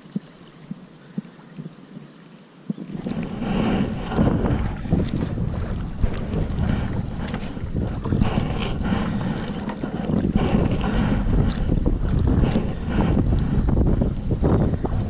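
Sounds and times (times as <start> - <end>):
wind buffeting microphone: 2.6 - 15.0.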